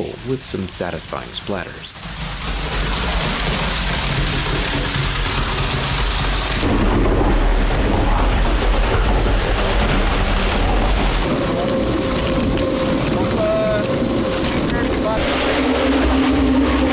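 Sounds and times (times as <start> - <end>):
wet concrete mixing and pouring: 0.0 - 16.9.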